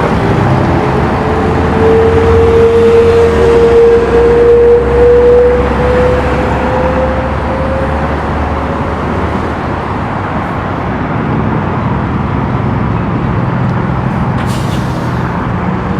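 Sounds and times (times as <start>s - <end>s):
diesel truck engines rumbling: 0.0s - 15.9s.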